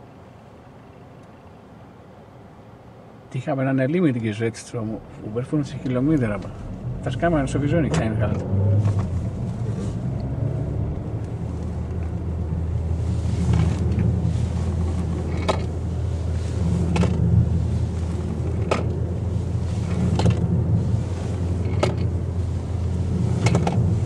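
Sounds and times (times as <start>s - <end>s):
car engine and tyre hum: 0.0s - 24.0s.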